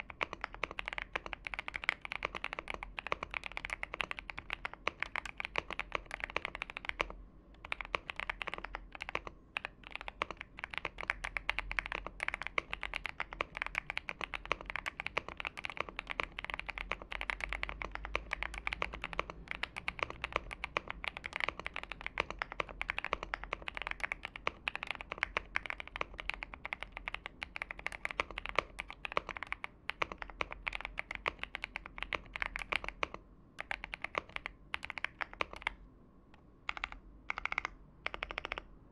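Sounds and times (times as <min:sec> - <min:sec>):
rapid mechanical keyboard typing: 0:00.0 - 0:35.8, 0:36.7 - 0:38.7.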